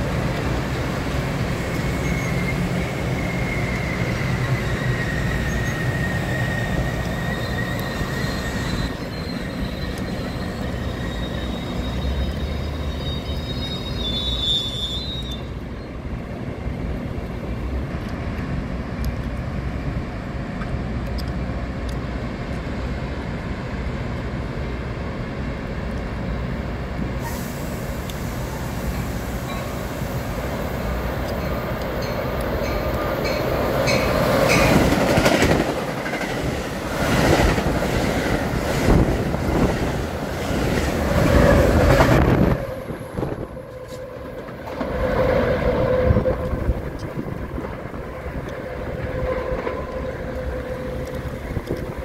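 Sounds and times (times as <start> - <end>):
train passing rumble: 0.0 - 52.0.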